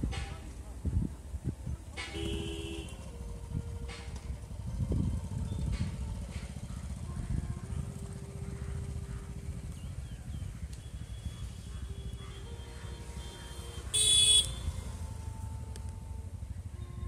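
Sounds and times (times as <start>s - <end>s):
outdoor traffic noise: 0.0s - 17.0s
vehicle engine rumbling: 0.0s - 17.0s.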